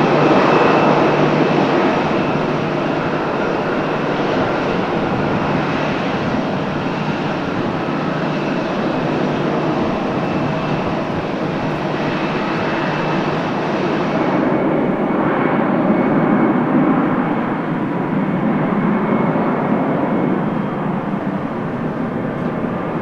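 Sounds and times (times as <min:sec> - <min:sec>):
jet engine rush with whine: 0:00.0 - 0:23.0.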